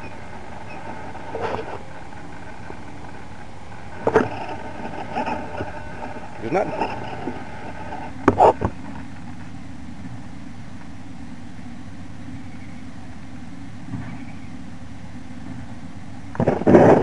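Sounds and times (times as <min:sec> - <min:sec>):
heavy machinery engine rumble: 0:00.0 - 0:17.0.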